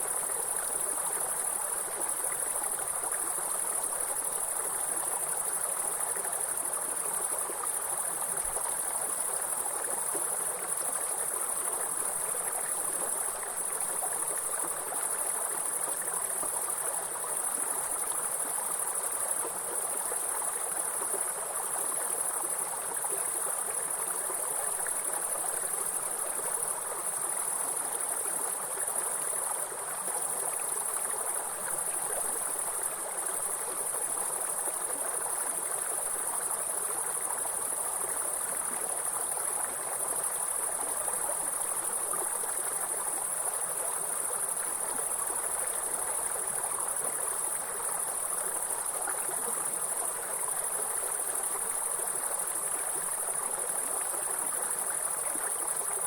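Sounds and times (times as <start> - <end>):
insects chirring: 0.0 - 56.0
stream flowing: 0.0 - 56.0.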